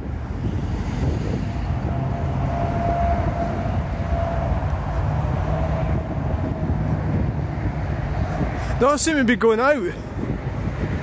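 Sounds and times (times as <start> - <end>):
jet engines rumbling overhead: 0.0 - 11.0
motorway traffic hum: 0.0 - 11.0
wind on microphone: 0.0 - 11.0.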